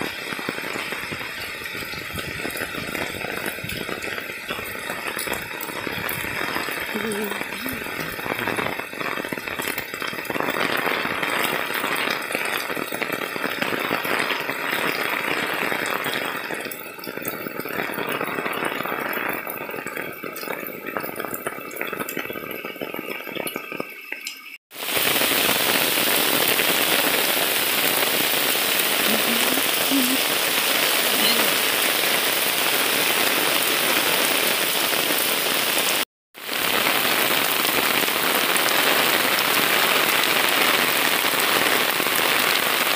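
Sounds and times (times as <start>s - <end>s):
heavy rain hissing: 0.0s - 16.8s, 24.7s - 42.9s.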